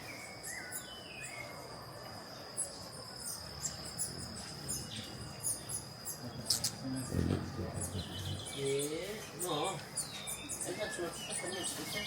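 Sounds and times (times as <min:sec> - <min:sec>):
high-pitched insect trill: 0:00.0 - 0:12.0
hummingbird chirps: 0:00.0 - 0:12.0.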